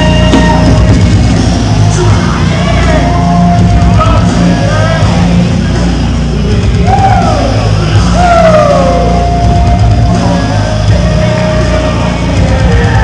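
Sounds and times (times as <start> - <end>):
hard rock music: 0.0 - 13.0.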